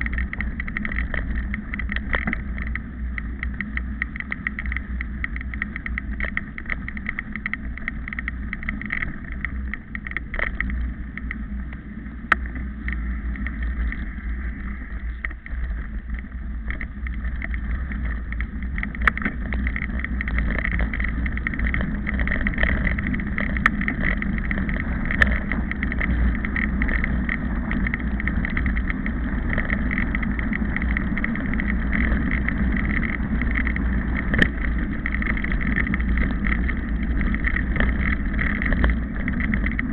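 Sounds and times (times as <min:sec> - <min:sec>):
low rumble: 0:00.0 - 0:39.9
wind buffeting microphone: 0:00.0 - 0:39.9.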